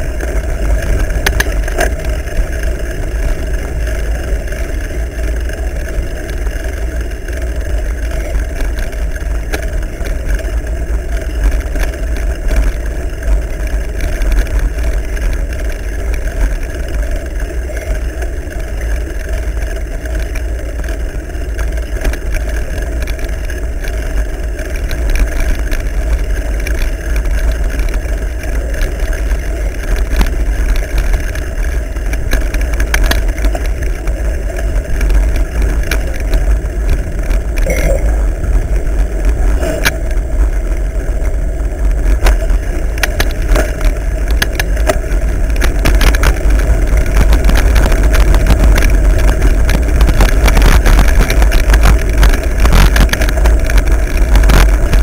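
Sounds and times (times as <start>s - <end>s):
bike rattles and knocks: 0.0s - 55.0s
wind and trail vibration rumble: 0.0s - 55.0s.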